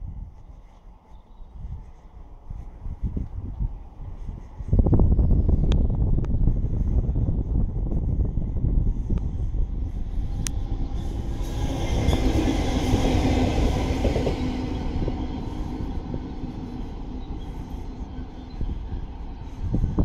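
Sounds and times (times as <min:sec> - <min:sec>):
diesel locomotive engine drone: 0:00.0 - 0:20.0
rail rumble: 0:00.0 - 0:20.0.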